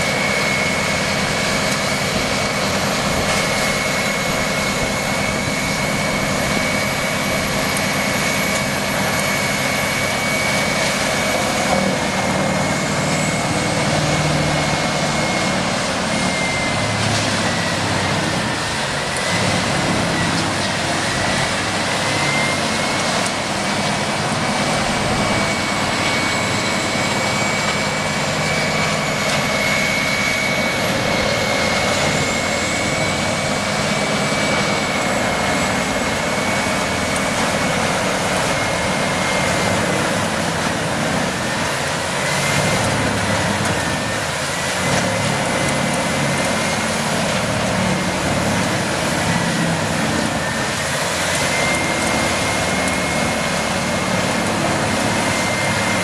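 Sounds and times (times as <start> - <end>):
large machine running with high whine: 0.0 - 56.0.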